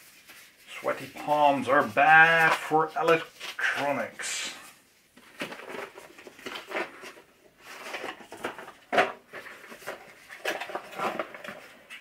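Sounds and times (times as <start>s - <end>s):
cardboard boxes rustling: 0.0s - 4.2s, 5.2s - 12.0s.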